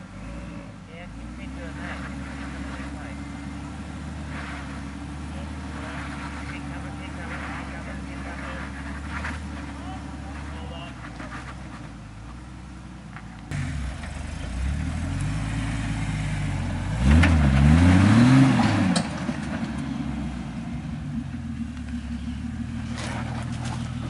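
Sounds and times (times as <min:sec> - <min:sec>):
vehicle engine revving under load: 0:00.0 - 0:24.0.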